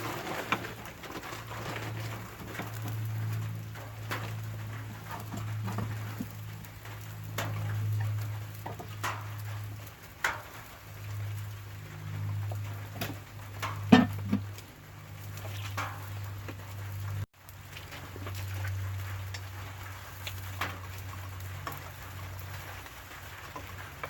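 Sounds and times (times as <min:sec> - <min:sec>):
campfire crackling: 0:00.0 - 0:24.0
rain ticks: 0:00.0 - 0:24.0.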